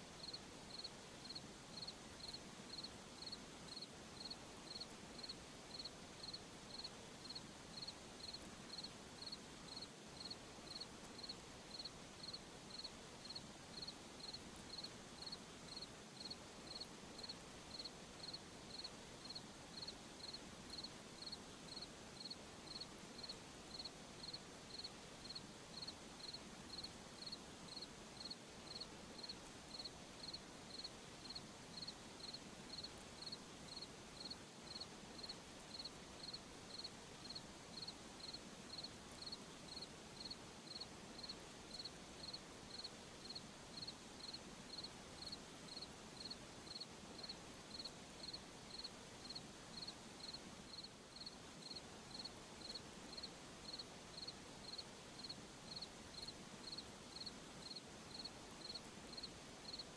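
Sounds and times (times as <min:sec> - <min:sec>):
faint night ambience hiss: 0:00.0 - 0:59.9
cricket chirping: 0:00.2 - 0:59.8.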